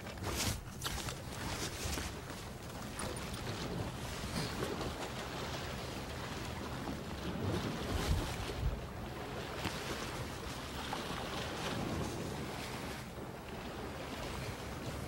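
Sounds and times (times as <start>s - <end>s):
sea waves washing against rock: 0.0s - 15.0s
wind buffeting microphone: 0.0s - 15.0s.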